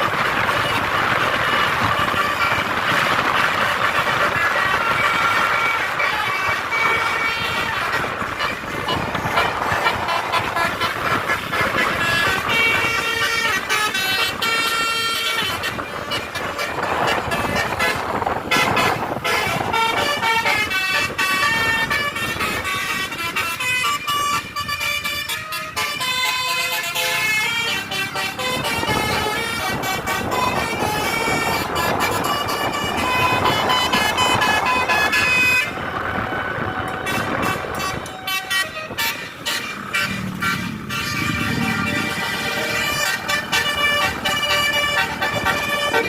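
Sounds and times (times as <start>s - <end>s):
multi-tone bus horn tune: 0.0s - 46.0s
traffic noise: 0.0s - 46.0s.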